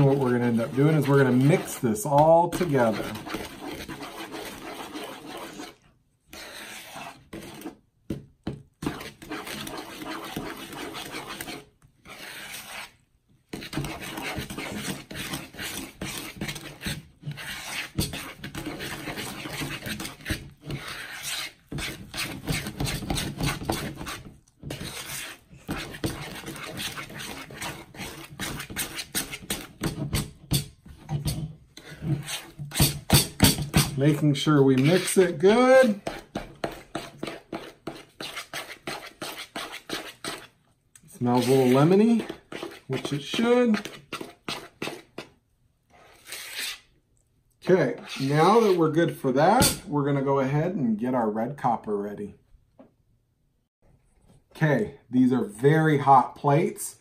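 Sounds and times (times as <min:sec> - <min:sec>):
fork stirring in plastic bowl: 0:00.0 - 0:46.9, 0:47.6 - 0:49.9.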